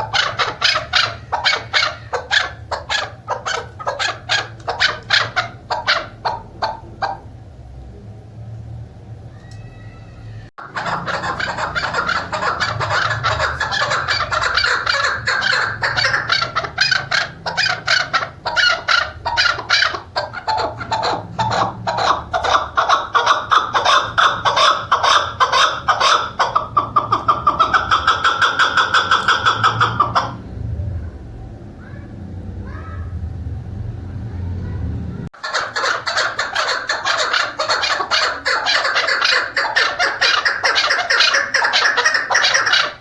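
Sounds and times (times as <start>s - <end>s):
partridge clucking call: 0.0s - 7.3s, 10.6s - 30.4s, 35.4s - 43.0s.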